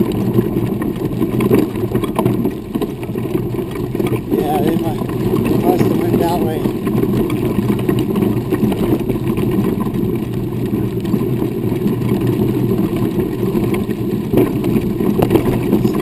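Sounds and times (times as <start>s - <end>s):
vehicle engine drone: 0.0s - 16.0s
wheels rumbling on gravel: 0.0s - 16.0s.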